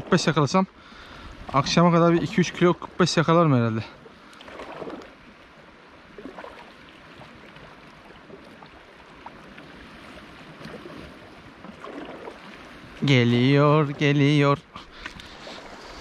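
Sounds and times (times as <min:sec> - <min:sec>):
sea water lapping on shore: 0:00.0 - 0:16.0.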